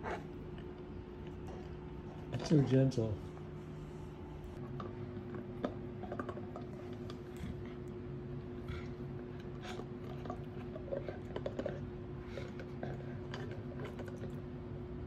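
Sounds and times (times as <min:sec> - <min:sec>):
dog gnawing chew bone: 0:00.0 - 0:03.1, 0:04.6 - 0:15.0
low hum: 0:00.0 - 0:15.0.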